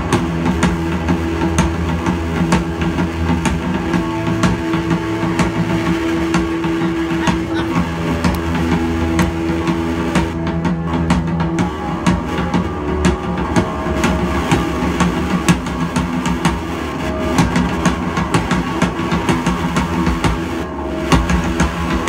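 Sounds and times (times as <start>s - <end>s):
drum hits: 0.0s - 22.0s
electric guitar notes: 0.0s - 22.0s.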